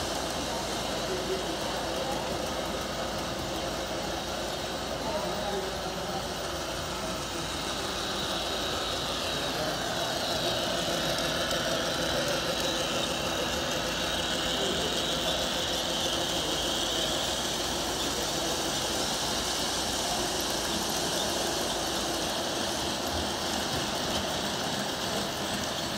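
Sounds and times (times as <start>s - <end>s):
model train whirring on tracks: 0.0s - 25.9s.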